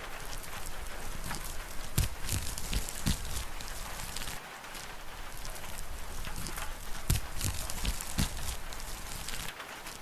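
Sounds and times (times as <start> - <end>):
fire pops: 0.0 - 10.0
rain hiss: 0.0 - 10.0
wood fire crackling: 0.0 - 10.0.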